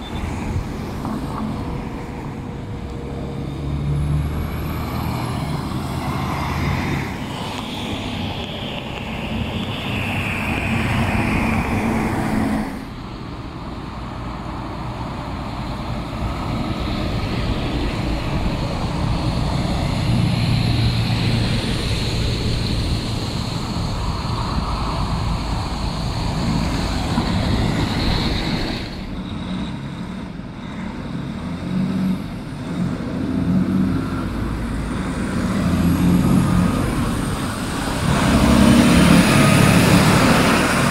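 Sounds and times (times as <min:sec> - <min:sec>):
diesel trucks driving past: 0:00.0 - 0:40.9
road and tyre noise: 0:00.0 - 0:40.9.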